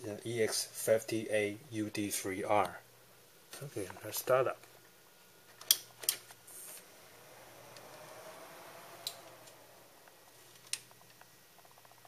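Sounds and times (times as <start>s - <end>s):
computer fans humming: 0.0s - 12.0s.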